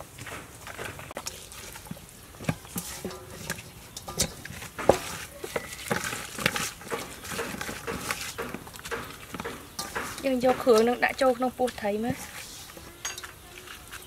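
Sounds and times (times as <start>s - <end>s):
wet squelches of kneading: 0.0s - 14.0s.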